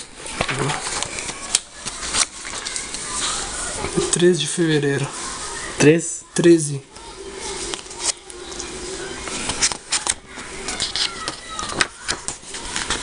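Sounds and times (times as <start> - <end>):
paper rustling and crackling: 0.0 - 5.8, 6.9 - 13.0.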